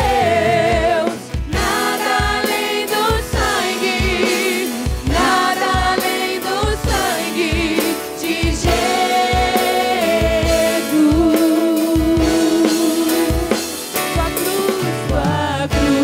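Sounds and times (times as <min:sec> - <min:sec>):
worship band playing: 0:00.0 - 0:16.0.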